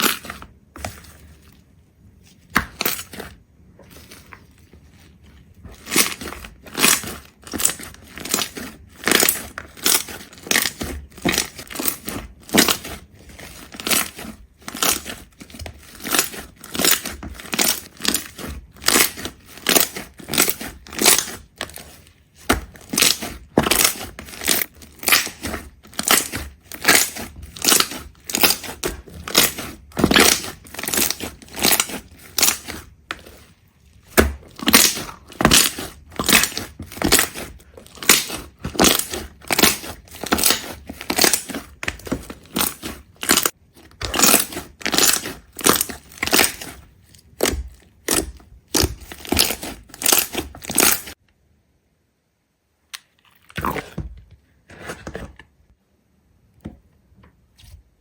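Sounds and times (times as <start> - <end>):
brittle crunching: 2.5 - 51.2.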